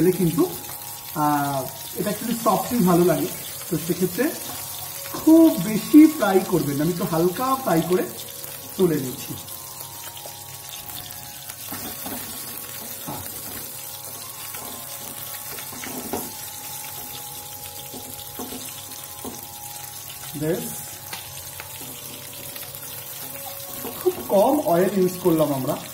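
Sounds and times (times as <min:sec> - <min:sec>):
fish frying in oil: 0:00.0 - 0:25.9.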